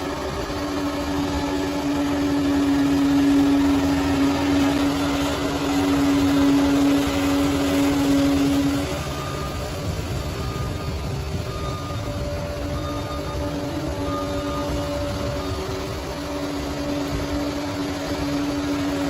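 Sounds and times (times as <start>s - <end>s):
diesel engine under load: 0.0s - 19.0s
steady engine whine: 0.0s - 19.0s.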